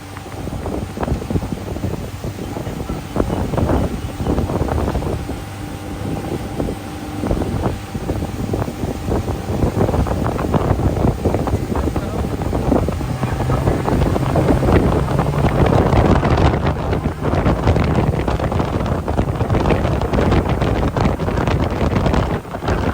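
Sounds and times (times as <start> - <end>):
loud steady rushing noise: 0.0 - 22.9
wind buffeting microphone: 0.0 - 22.9.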